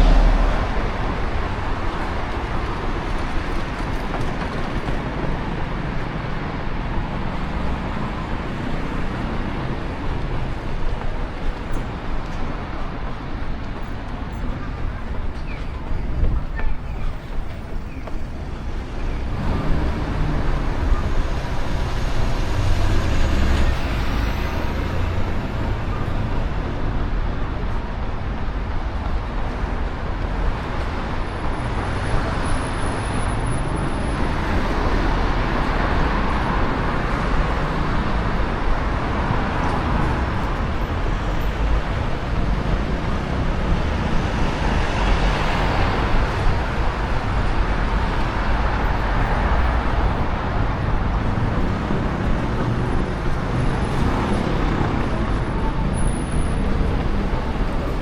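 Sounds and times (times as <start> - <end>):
city road traffic rumble: 0.0 - 58.0.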